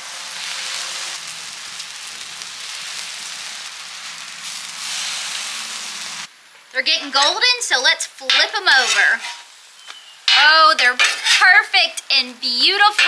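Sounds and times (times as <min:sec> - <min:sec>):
butter sizzling on a hot griddle: 0:00.0 - 0:13.0.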